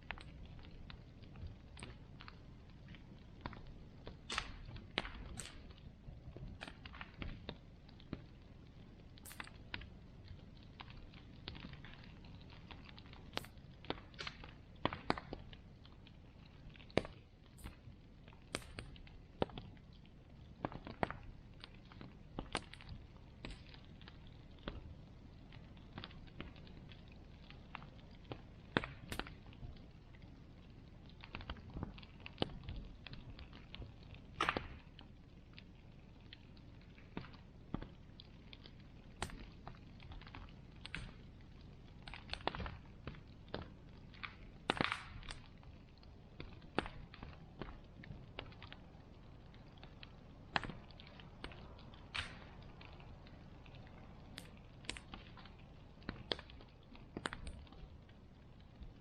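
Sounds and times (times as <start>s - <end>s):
bonfire crackling: 0.0s - 59.0s.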